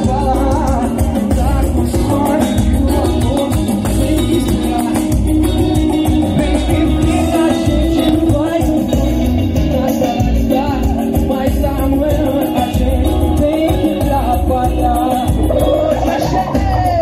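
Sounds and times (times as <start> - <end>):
heavy bass beat: 0.0 - 17.0
person singing: 0.0 - 17.0.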